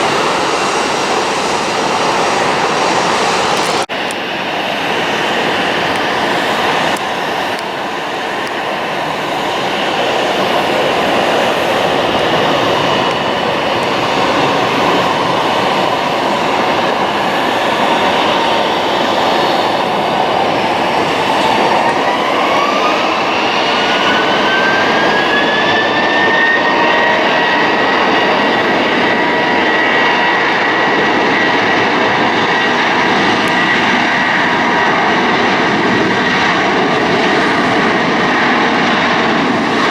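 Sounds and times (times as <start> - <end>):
jet engine whine: 0.0 - 39.9
jet engines running: 0.0 - 39.9.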